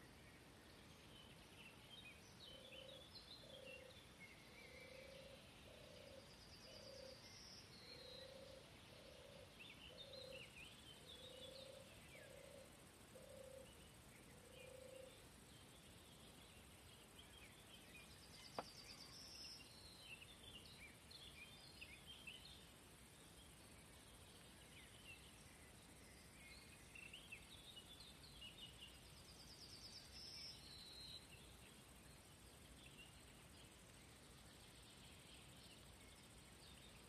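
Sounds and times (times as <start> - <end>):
songbird chirping with trill: 0.0 - 37.0.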